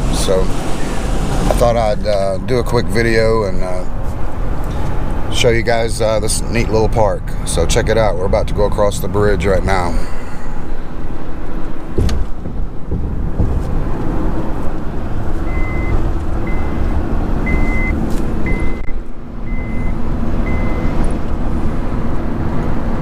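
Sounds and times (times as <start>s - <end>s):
vehicle road and engine rumble: 0.0s - 23.0s.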